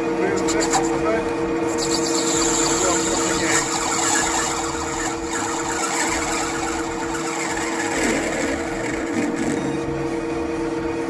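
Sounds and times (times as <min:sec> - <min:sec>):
lathe running: 0:00.4 - 0:10.1.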